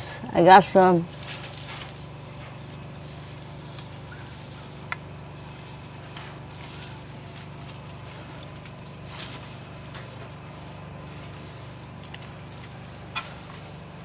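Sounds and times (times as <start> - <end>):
rustling of branches and leaves: 0.0 - 14.0
steady low hum: 0.0 - 14.0.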